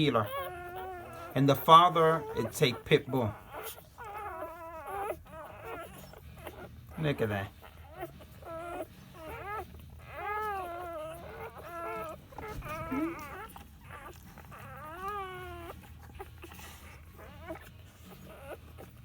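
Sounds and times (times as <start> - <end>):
puppies crying and squealing: 0.0 - 19.0.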